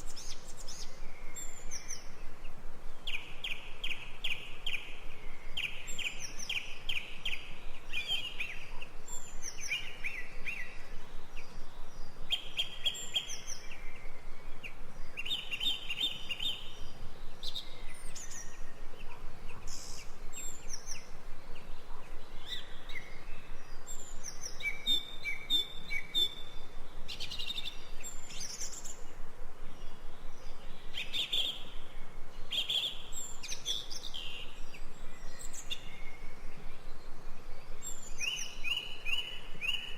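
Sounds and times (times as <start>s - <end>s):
background hiss: 0.0s - 39.9s
songbirds chirping and trilling: 0.0s - 39.9s.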